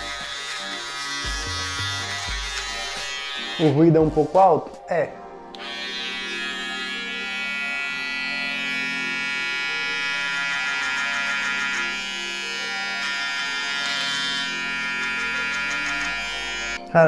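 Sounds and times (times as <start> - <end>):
electric shaver buzzing: 0.0 - 4.4, 5.5 - 17.0.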